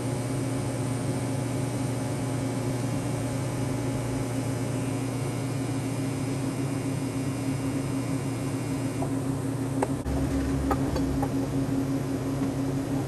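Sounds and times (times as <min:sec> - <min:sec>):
welding machine hum: 0:00.0 - 0:13.0.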